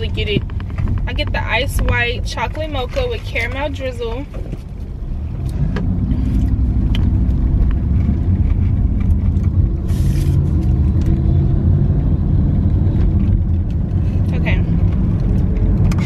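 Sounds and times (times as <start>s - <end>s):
car interior rumble: 0.0s - 16.0s.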